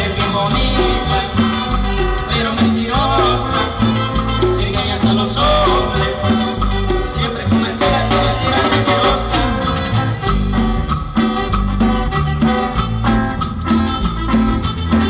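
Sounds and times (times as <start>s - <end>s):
latin dance band playing: 0.0s - 15.0s.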